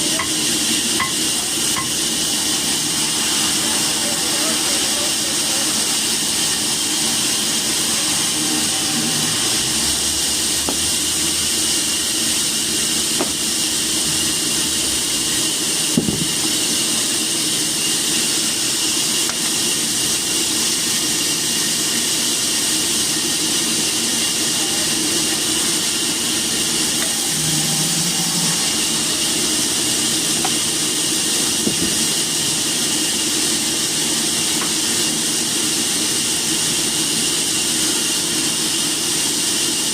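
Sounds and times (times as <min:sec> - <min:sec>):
machine hiss and hum: 0:00.0 - 0:39.9.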